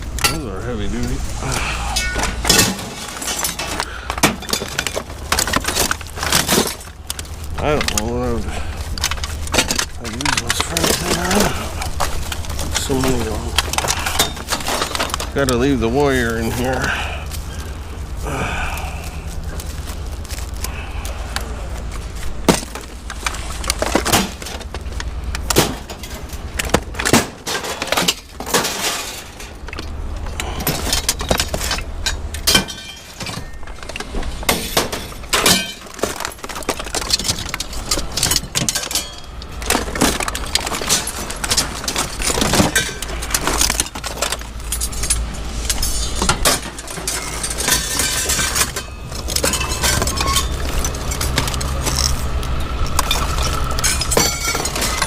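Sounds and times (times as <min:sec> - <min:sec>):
scrap metal clanking and crashing: 0:00.0 - 0:55.0
steady low rumble: 0:00.0 - 0:55.0.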